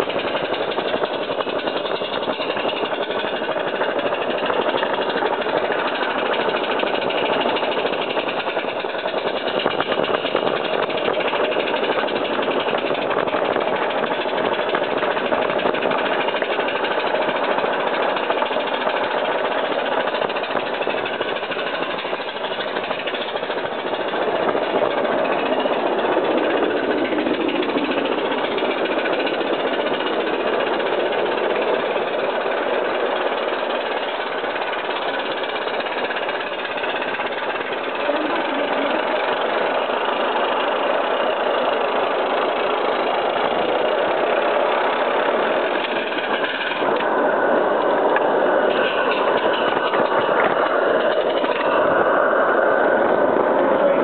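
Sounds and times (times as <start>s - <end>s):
steam locomotive exhaust chuffing: 0.0s - 54.0s
wheels rattling on track: 0.0s - 54.0s.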